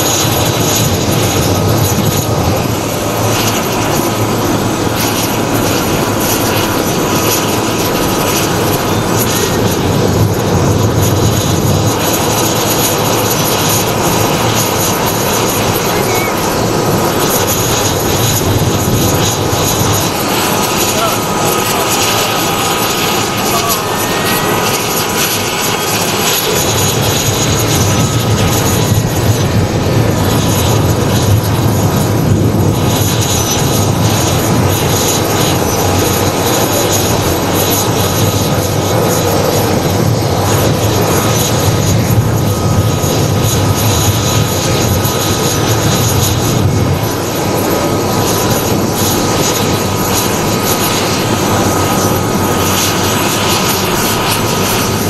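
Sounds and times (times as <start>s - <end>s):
helicopter rotor noise: 0.0s - 55.0s
helicopter turbine whine: 0.0s - 55.0s.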